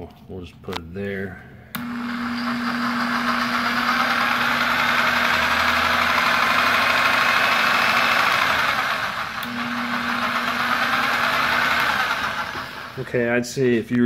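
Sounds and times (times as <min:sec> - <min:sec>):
rotary hammer motor running: 0:01.8 - 0:13.1.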